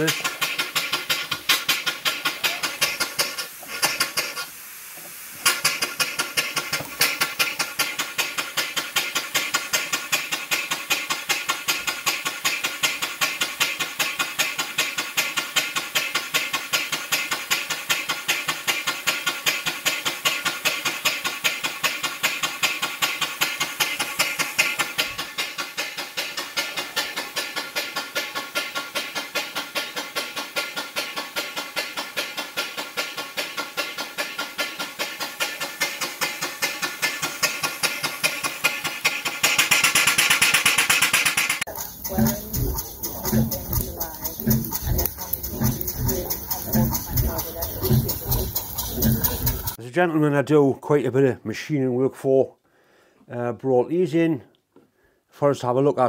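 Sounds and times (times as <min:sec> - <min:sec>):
steam engine exhaust puffs: 0:00.0 - 0:49.8
steam engine hiss: 0:00.0 - 0:49.8.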